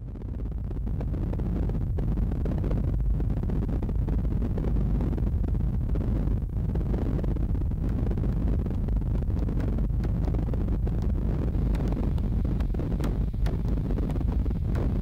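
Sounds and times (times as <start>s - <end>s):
car road and engine rumble: 0.8s - 15.0s.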